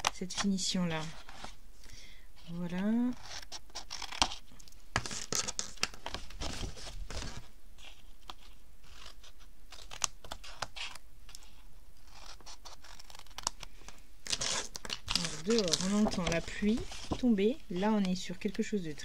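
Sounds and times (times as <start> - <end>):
card rustling: 3.4 - 19.0.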